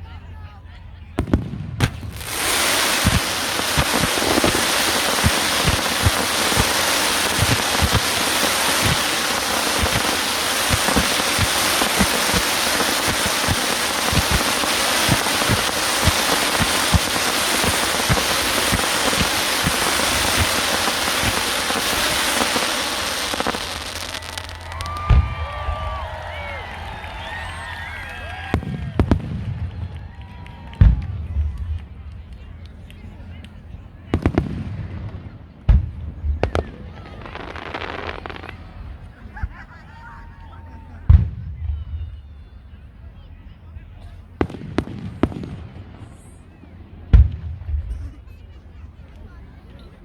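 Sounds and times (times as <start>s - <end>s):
fireworks crackling: 0.0s - 42.7s, 43.3s - 48.0s
fireworks booming: 1.1s - 42.2s, 43.9s - 48.4s.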